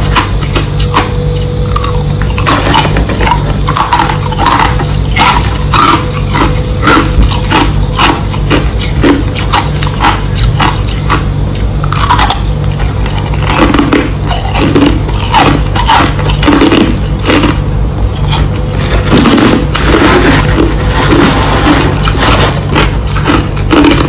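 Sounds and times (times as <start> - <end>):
ice being chewed: 0.0 - 24.0.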